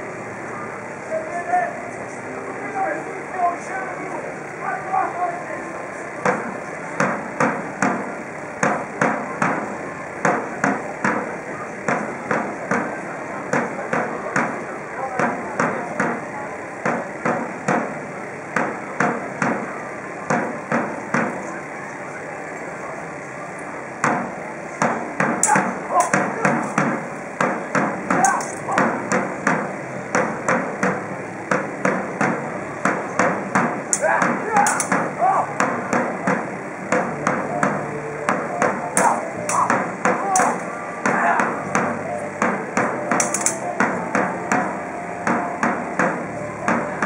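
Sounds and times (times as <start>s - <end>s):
drum beating: 6.2s - 21.4s, 24.0s - 47.0s.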